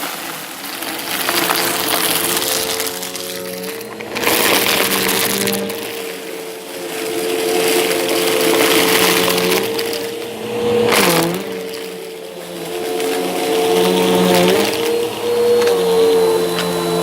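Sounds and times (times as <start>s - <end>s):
brushroll crunching debris: 0.0s - 17.0s
vacuum cleaner motor whine: 0.0s - 17.0s.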